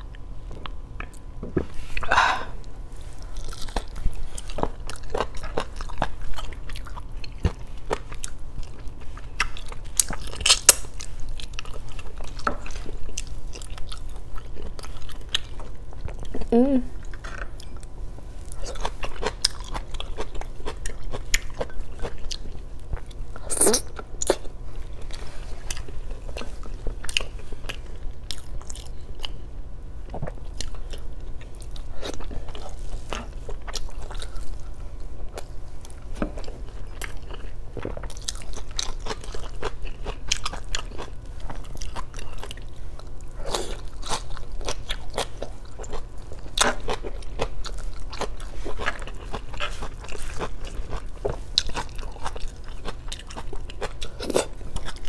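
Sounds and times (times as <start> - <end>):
chewing and biting: 3.1 - 16.4, 18.4 - 55.0.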